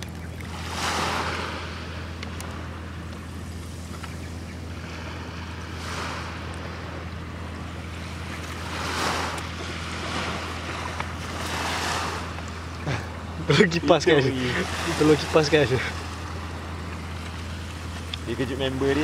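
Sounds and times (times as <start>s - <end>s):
wind: 0.0s - 19.0s
surf rushing on beach: 0.5s - 3.9s, 4.7s - 19.0s.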